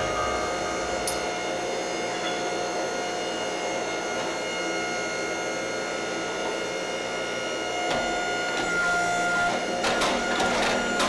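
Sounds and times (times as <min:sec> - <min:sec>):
pump motor humming with whine: 0:00.0 - 0:11.0.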